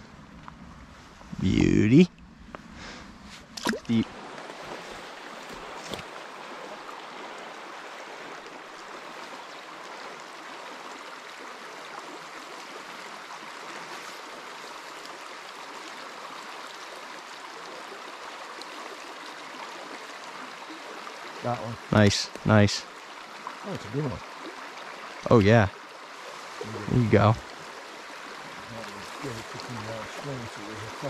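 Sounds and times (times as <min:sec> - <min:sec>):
stream running over rocks: 0:03.3 - 0:31.0.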